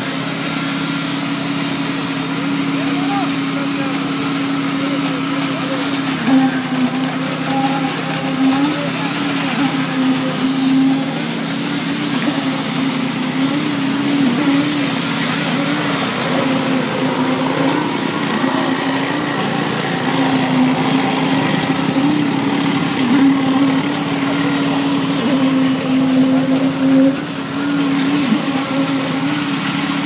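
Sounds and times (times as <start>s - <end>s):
machinery engine hum: 3.6s - 30.0s.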